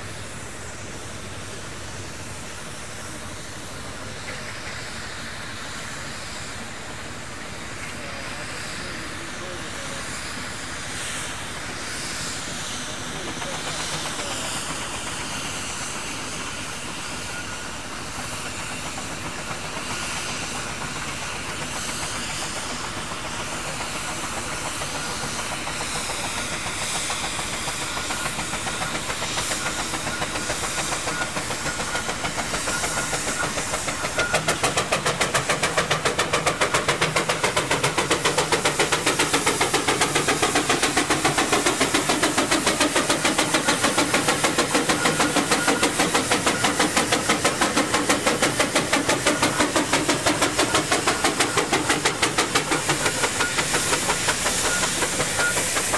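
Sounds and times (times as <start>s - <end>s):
hiss: 0.0s - 55.9s.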